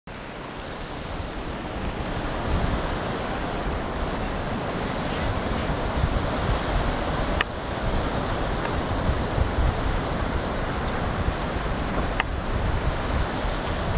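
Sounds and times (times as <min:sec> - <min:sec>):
gentle surf on shore: 0:00.1 - 0:13.9
wind buffeting microphone: 0:00.1 - 0:13.9.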